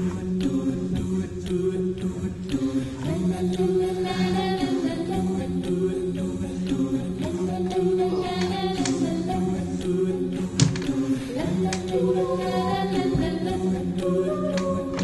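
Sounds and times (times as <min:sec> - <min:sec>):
voices singing chant-like harmonies: 0:00.0 - 0:15.0
regular clicking beat: 0:00.1 - 0:15.0.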